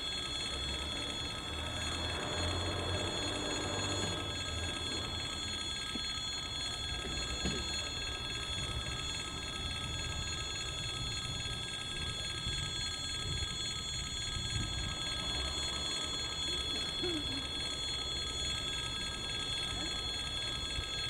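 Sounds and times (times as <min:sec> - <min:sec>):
diesel locomotive rumble: 0:00.0 - 0:21.0
high-pitched ringing tone: 0:00.0 - 0:21.0.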